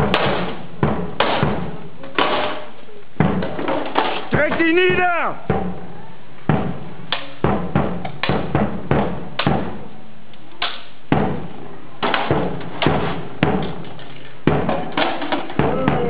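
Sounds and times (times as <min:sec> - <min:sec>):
swords striking shields: 0:00.0 - 0:05.8, 0:06.5 - 0:09.8, 0:12.0 - 0:16.0.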